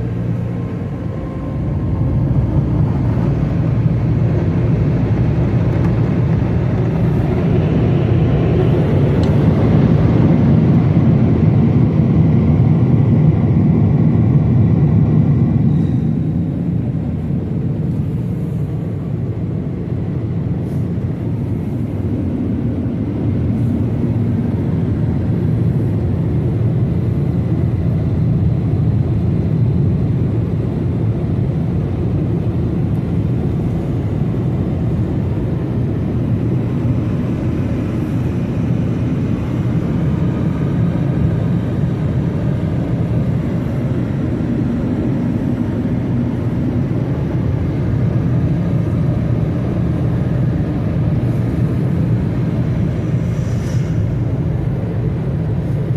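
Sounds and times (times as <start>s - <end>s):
car wash machinery rumbling: 0.0s - 55.9s.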